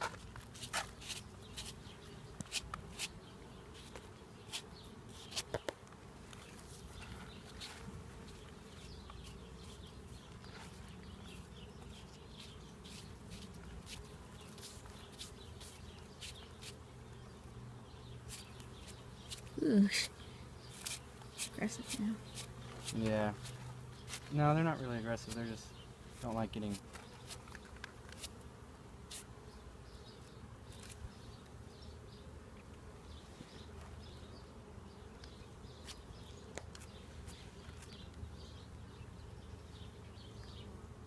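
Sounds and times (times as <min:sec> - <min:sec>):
honeybees buzzing: 0:00.0 - 0:41.0.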